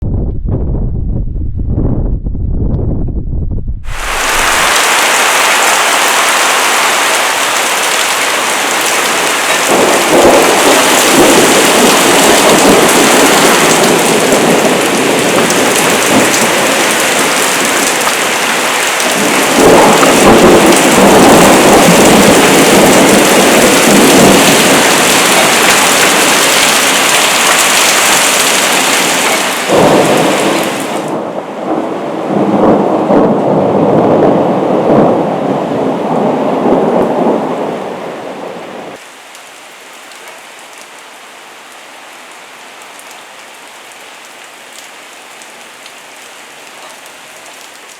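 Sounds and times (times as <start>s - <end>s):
thunder rumbling: 0.0s - 39.0s
heavy rain pouring: 3.9s - 47.9s.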